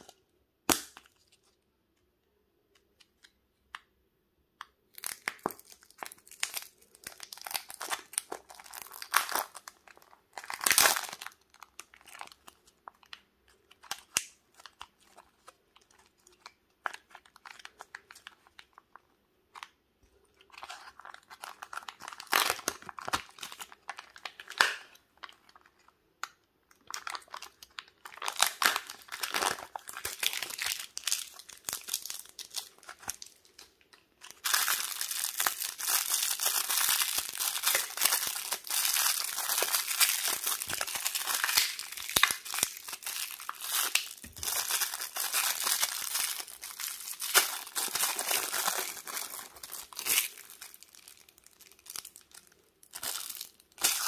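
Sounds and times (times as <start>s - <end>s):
foil and plastic wrapper crinkling: 5.0s - 19.0s, 20.4s - 25.9s, 26.8s - 54.0s.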